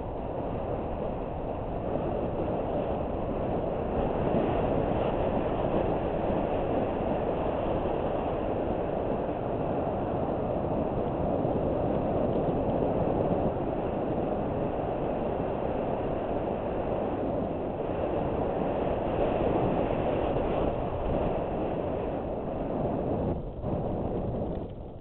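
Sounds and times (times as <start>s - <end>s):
bicycle tyres rolling over dirt: 0.0s - 25.0s
wind buffeting microphone: 0.0s - 25.0s.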